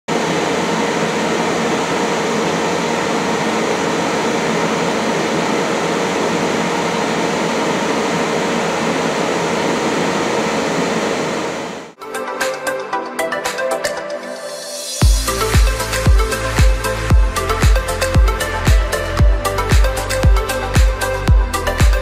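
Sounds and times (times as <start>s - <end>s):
grill fan running: 0.1s - 12.0s, 15.0s - 22.0s.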